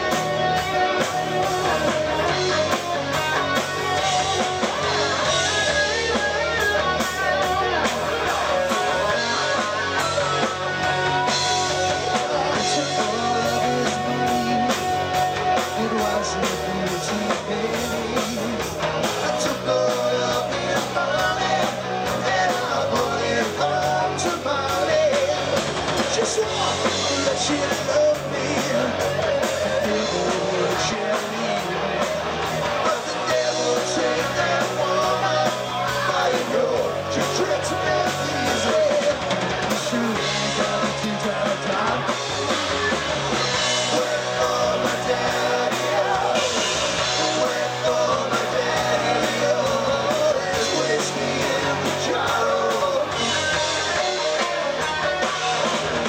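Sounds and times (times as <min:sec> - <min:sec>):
person singing: 0:00.0 - 0:42.5, 0:43.5 - 0:56.0
live rock band playing: 0:00.0 - 0:56.0.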